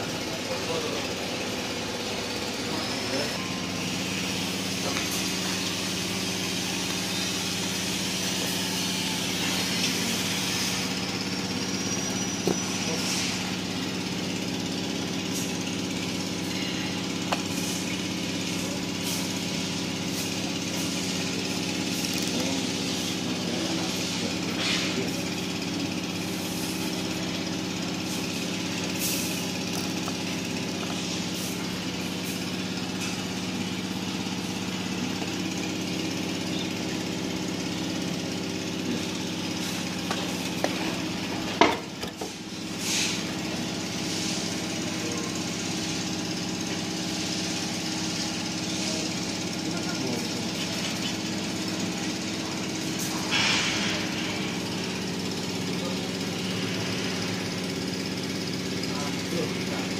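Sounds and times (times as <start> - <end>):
generator engine hum: 0.0 - 59.9.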